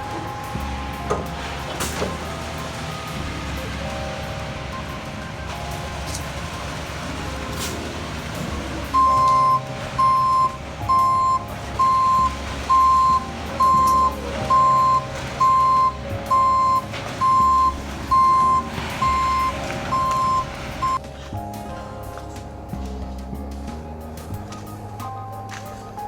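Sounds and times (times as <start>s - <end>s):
truck back-up alarm beeping: 0.0s - 21.0s
truck engine running low: 0.0s - 26.0s.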